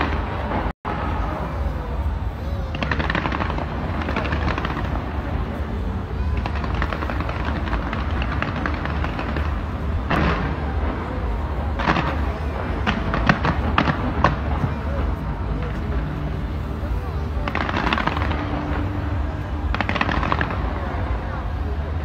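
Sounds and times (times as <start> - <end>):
fireworks crackling and popping: 0.0 - 22.0
low rumble: 0.0 - 22.0
loud firework bangs: 2.7 - 22.0.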